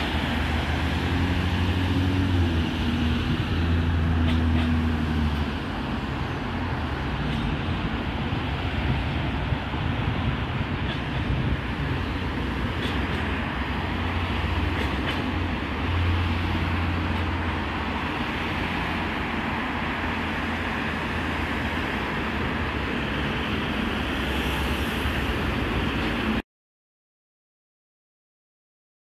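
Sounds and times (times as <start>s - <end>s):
road traffic passing: 0.0s - 26.4s.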